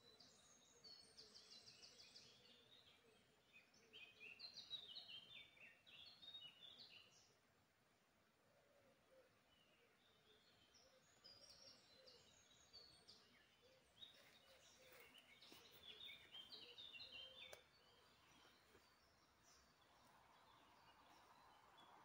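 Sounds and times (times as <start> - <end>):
small birds singing: 0.0 - 7.7, 8.4 - 22.0.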